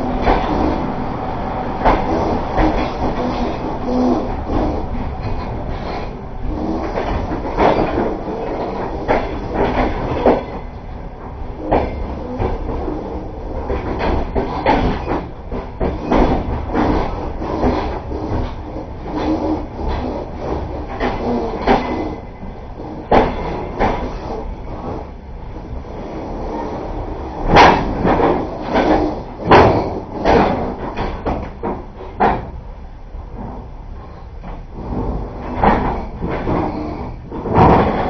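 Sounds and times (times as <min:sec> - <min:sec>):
train carriage rumble: 0:00.0 - 0:38.0
wheels knocking and clattering: 0:00.0 - 0:38.0.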